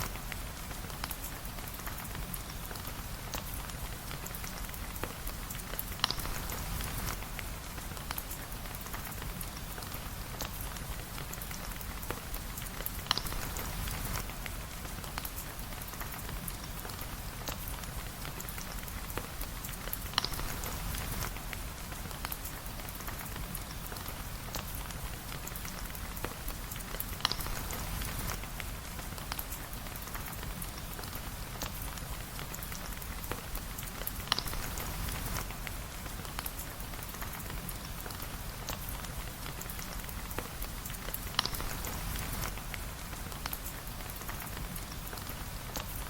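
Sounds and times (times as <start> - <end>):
steady rain patter: 0.0 - 46.0.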